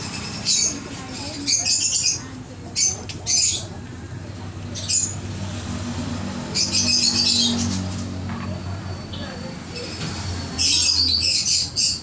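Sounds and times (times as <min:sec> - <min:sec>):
budgies chirping and chattering: 0:00.0 - 0:12.0.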